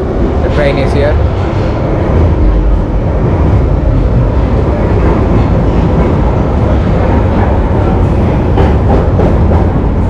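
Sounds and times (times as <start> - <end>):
underground train rumble: 0.0 - 10.0.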